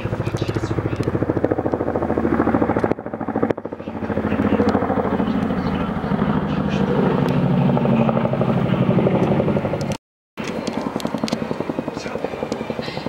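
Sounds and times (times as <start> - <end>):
helicopter rotors chopping: 0.0 - 13.0.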